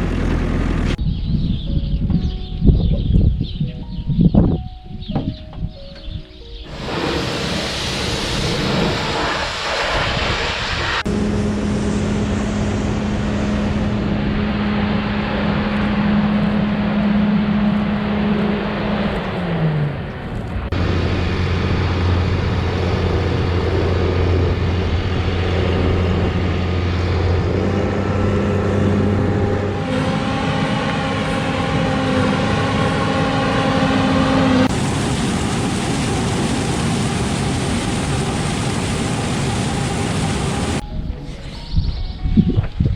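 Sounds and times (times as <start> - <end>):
heavy farm machinery engine: 0.0 - 1.0, 6.7 - 40.8.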